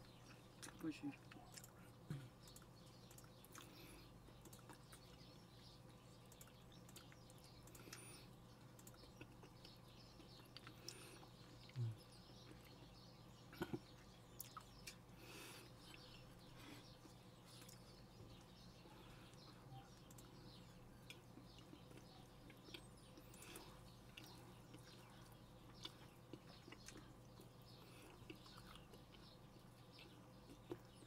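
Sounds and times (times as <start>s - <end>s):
eating noises: 0.0s - 31.0s
faint room hum: 0.0s - 31.0s.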